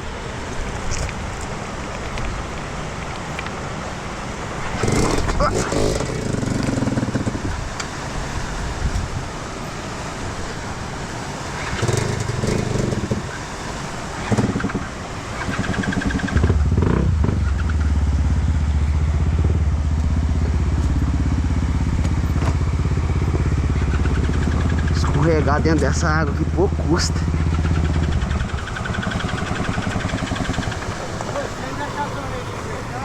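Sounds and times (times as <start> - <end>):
motorcycle engine running: 4.6 - 9.5, 10.5 - 33.0.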